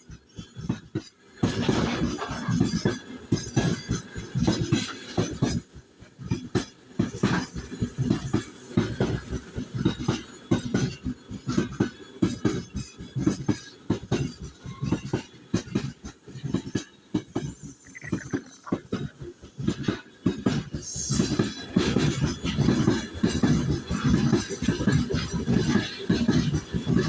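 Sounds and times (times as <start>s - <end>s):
train wheels clickety-clack: 0.1s - 27.0s.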